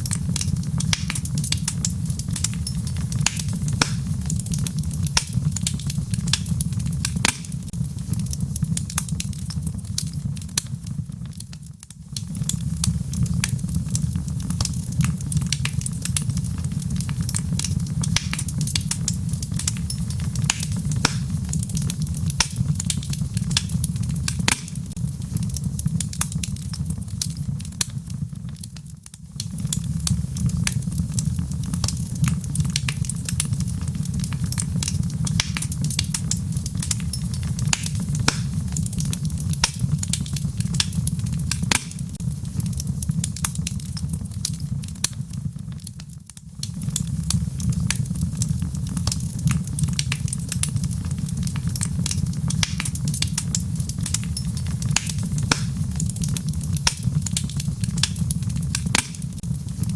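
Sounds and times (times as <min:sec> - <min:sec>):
wood logs burning with crackles: 0:00.0 - 0:59.9.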